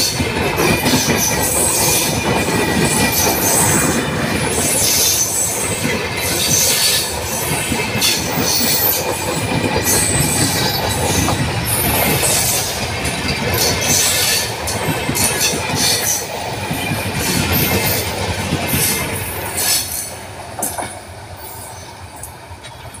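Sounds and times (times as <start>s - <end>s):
train wheels rumbling and clacking: 0.0s - 23.0s.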